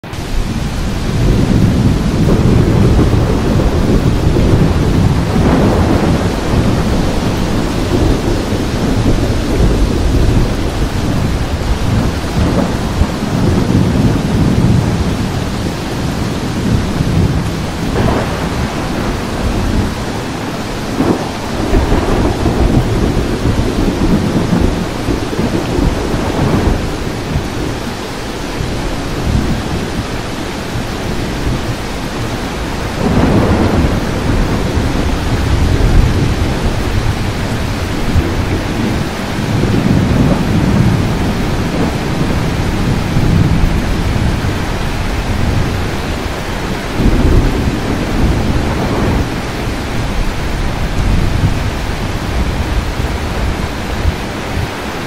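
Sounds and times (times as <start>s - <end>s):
heavy rain: 0.0s - 55.0s
thunder rumbling: 0.0s - 55.0s
sharp thunder claps: 0.2s - 28.0s, 30.8s - 54.8s.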